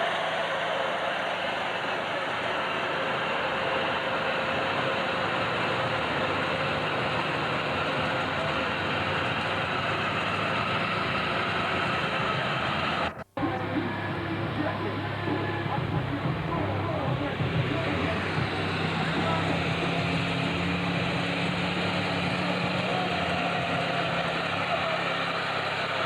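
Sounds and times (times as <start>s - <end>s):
tractor engine droning: 0.0s - 26.0s.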